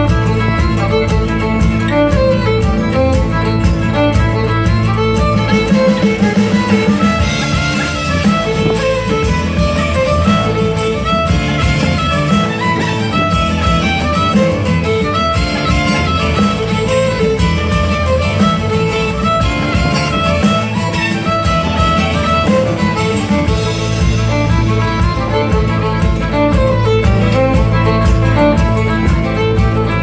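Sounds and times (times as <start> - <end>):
music accompaniment with strong bass: 0.0 - 30.0
violin melody: 0.0 - 30.0.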